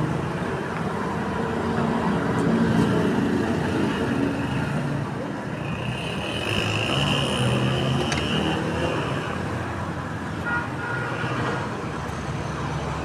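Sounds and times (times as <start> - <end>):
passing traffic: 0.0 - 13.0.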